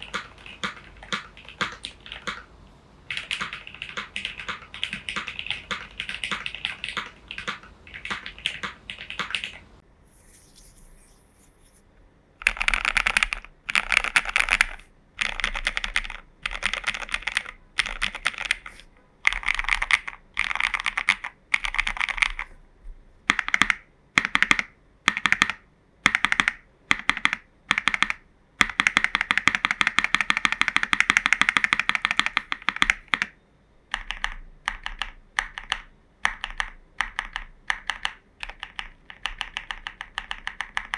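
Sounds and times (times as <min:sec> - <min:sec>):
typing on mechanical keyboard: 0:00.0 - 0:02.5, 0:03.1 - 0:09.6, 0:12.4 - 0:22.5, 0:23.3 - 0:40.9.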